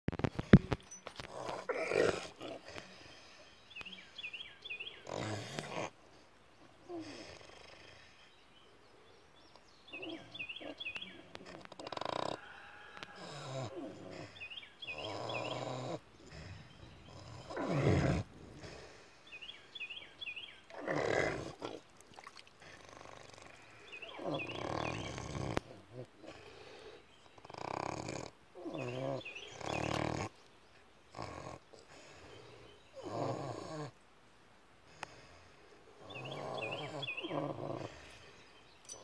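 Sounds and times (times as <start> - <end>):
pigs snoring: 0.4 - 3.2, 4.7 - 6.0, 6.9 - 8.3, 9.9 - 30.4, 31.1 - 34.0, 34.9 - 38.4.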